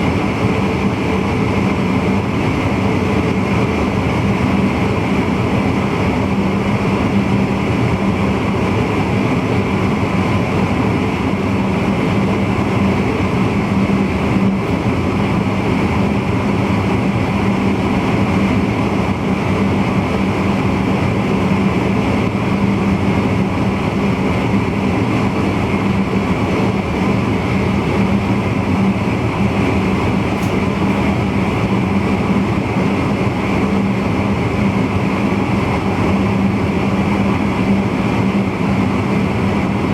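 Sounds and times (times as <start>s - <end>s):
electric train running: 0.0s - 39.9s.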